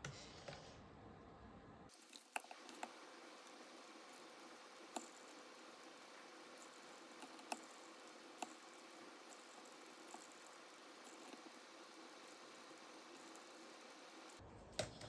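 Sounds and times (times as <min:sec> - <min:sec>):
faint steady hiss: 0:01.0 - 0:15.0.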